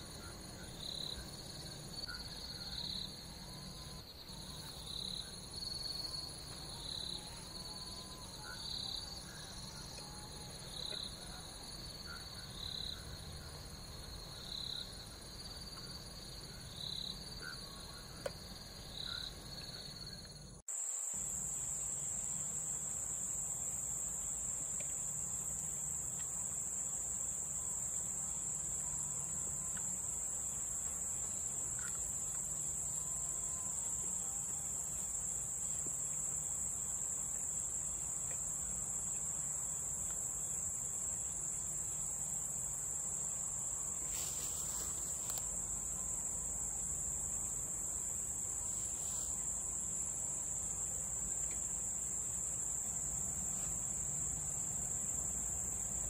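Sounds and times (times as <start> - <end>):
crickets and insects trilling: 0.0 - 56.0
pulsed insect call: 0.0 - 56.0.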